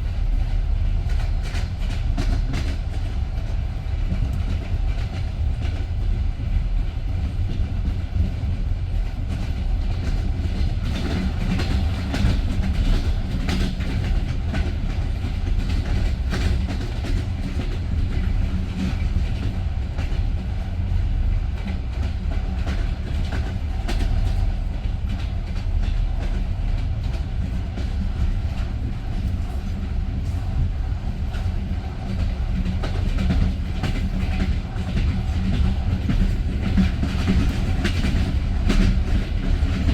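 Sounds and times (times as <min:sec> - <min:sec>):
train carriage rumbling on rails: 0:00.0 - 0:39.9.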